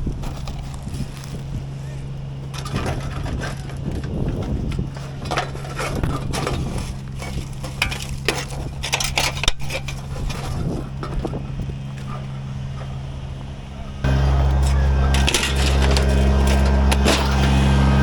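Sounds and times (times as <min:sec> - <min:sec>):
debris crunching and clattering: 0:00.0 - 0:18.0
engine running: 0:00.0 - 0:18.0.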